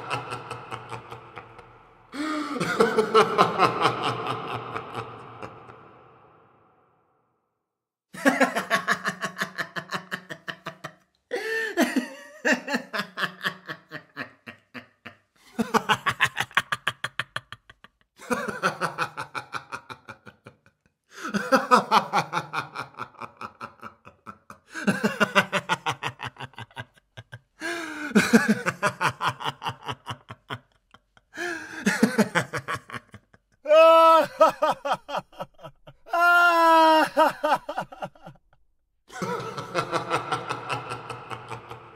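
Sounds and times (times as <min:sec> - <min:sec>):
man laughing: 0:00.0 - 0:06.4, 0:08.2 - 0:38.4, 0:39.1 - 0:41.9.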